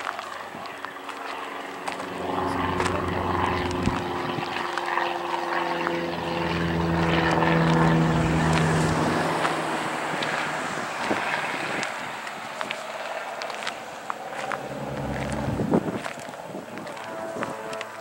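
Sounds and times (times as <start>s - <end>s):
propeller aircraft engine passing: 0.0s - 18.0s.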